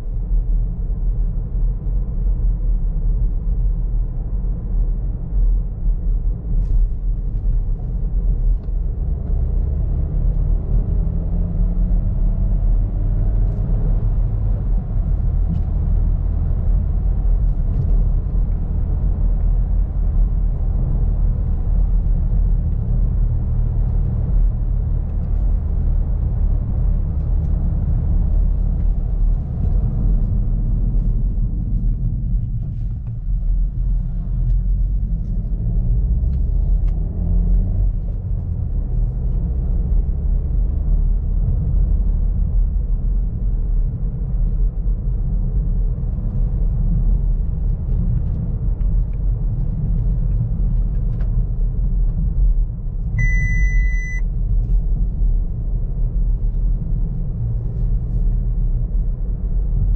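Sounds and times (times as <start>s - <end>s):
car engine drone: 0.0s - 59.9s
road rumble: 0.0s - 59.9s.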